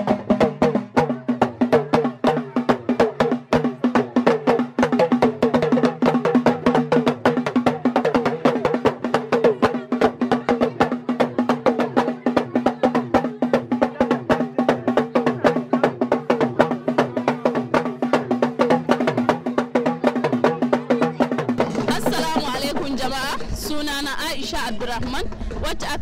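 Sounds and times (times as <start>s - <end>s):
fast drum and wood-block percussion: 0.0s - 26.0s.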